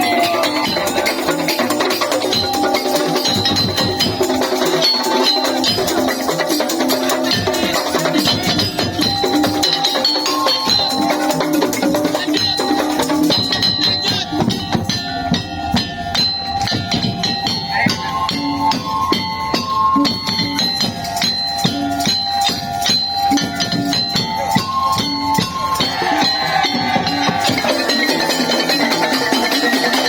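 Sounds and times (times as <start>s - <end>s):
percussion with shaker: 0.0s - 30.0s.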